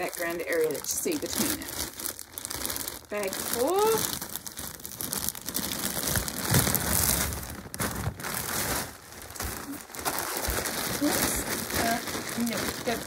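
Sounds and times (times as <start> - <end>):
plastic bags crinkling: 0.0 - 13.0
puzzle pieces shifting in bag: 0.0 - 13.0.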